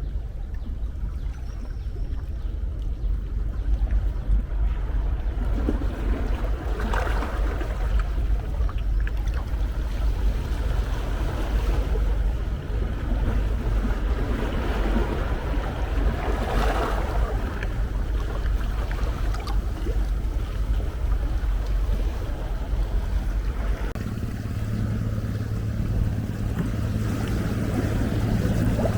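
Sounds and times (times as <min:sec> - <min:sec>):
deep steady rumble: 0:00.0 - 0:28.9
waves breaking on shore: 0:01.0 - 0:28.9.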